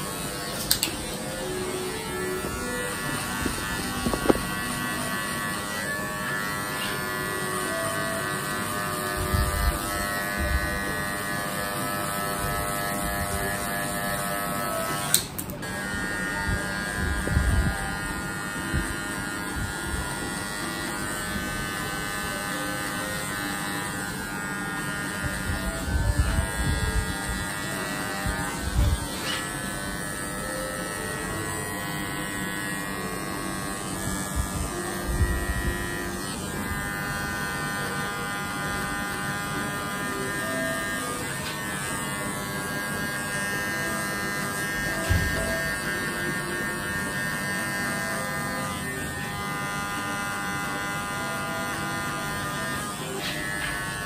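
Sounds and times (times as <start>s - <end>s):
electric hair clipper buzzing: 0.0s - 54.0s.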